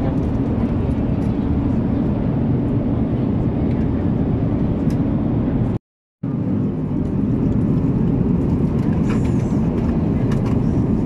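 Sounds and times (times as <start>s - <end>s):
jet airliner cabin noise: 0.0s - 11.0s.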